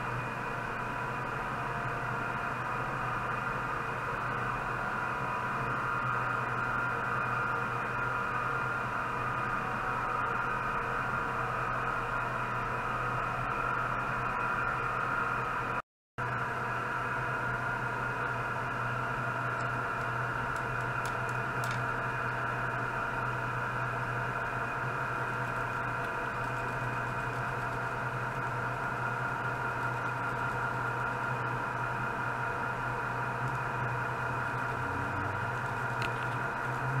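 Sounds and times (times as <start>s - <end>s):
electronic hum and hiss: 0.0s - 37.0s.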